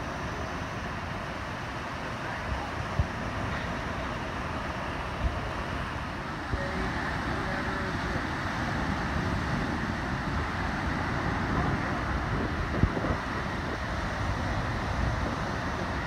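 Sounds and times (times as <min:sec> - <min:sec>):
small waves breaking on beach: 0:00.0 - 0:16.0.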